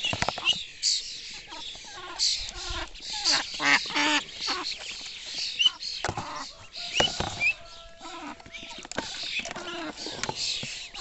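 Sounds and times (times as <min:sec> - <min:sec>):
birds pecking at seed: 0:00.0 - 0:11.0
ducklings peeping: 0:00.0 - 0:11.0
ducks calling: 0:00.0 - 0:11.0.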